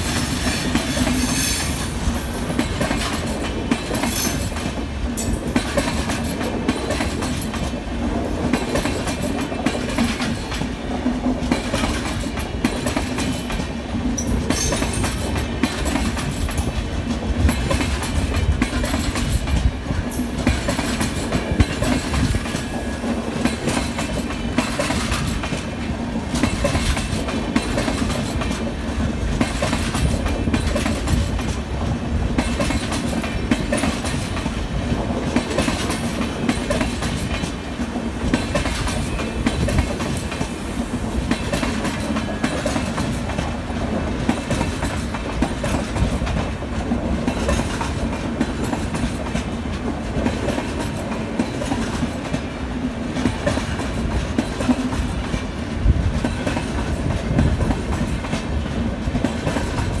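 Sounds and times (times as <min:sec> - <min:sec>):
train wheels rumbling on rail: 0:00.0 - 1:00.0
wheels clicking over rail joints: 0:00.0 - 1:00.0.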